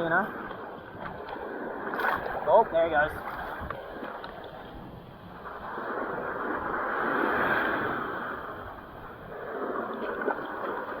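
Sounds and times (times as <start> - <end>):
surf washing up beach: 0.0 - 11.0.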